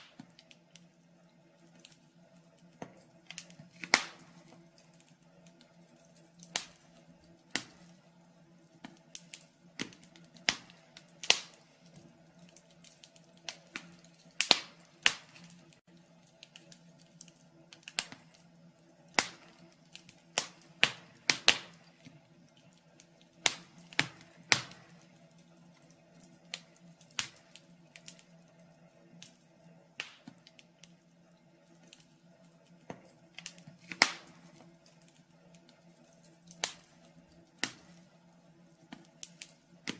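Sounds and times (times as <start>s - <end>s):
faint steady low hum: 0.0s - 39.9s
wood fire crackling: 0.0s - 39.9s.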